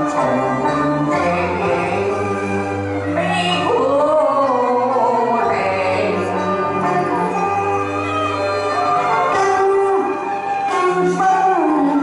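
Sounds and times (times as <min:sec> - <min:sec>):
opera singing with accompaniment: 0:00.0 - 0:12.0.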